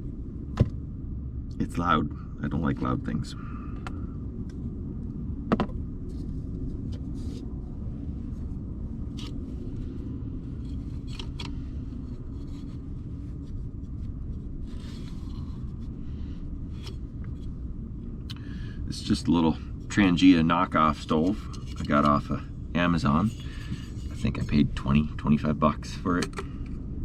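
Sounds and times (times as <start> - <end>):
low rumble: 0.0 - 27.0.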